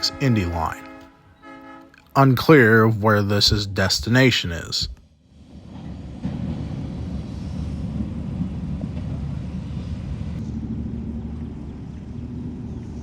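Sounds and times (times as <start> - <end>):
rail truck engine rumbling: 0.0 - 13.0.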